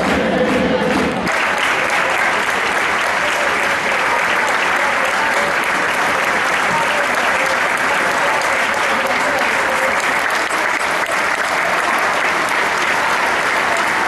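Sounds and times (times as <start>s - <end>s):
faint voices: 0.0s - 14.0s
stadium crowd applauding: 0.0s - 14.0s.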